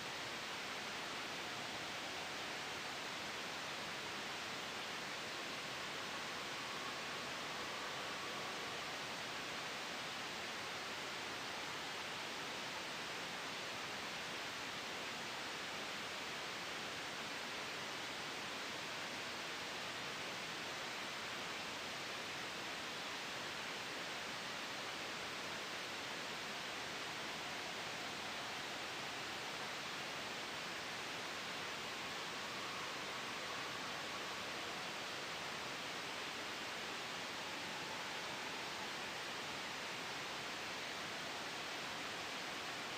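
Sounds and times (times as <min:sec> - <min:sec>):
gentle wind: 0:00.0 - 0:42.9
soft white noise: 0:00.0 - 0:42.9.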